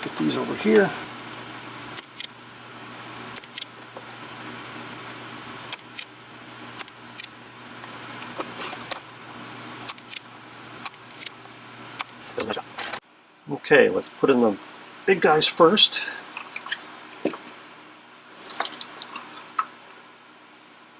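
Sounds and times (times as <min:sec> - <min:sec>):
fan humming: 0:00.0 - 0:20.9.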